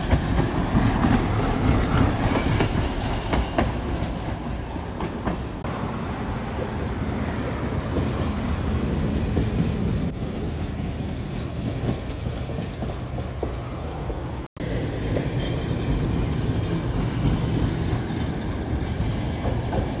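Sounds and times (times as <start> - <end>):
trams rolling on track: 0.0 - 20.0.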